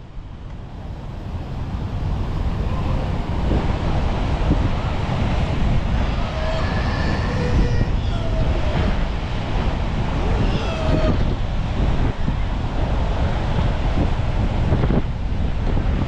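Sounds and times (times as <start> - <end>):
surf rushing: 0.0 - 16.0
wind buffeting microphone: 0.0 - 16.0.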